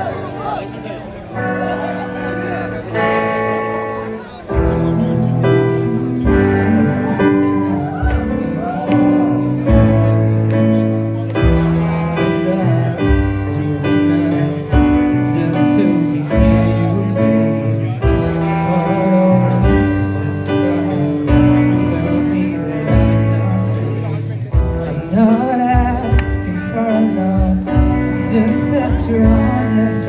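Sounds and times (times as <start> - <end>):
sustained chords over bass line: 0.0 - 30.0.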